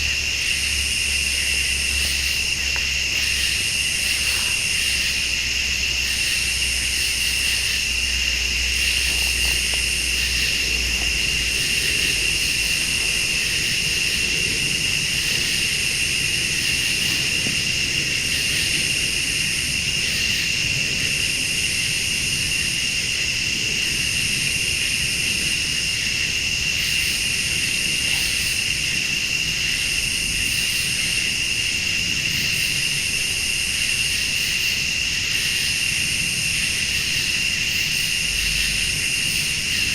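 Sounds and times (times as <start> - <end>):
crickets and insects trilling: 0.0 - 39.9
high pulsing insect call: 0.0 - 39.9.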